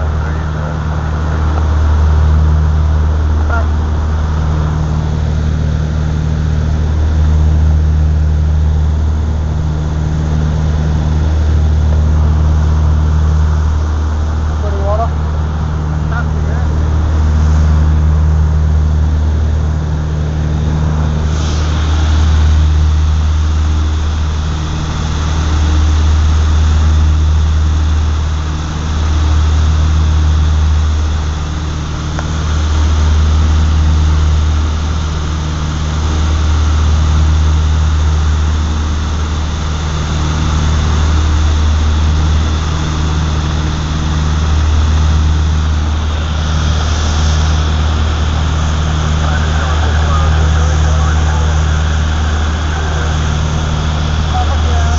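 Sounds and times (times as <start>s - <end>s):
propeller plane cabin drone: 0.0s - 54.9s.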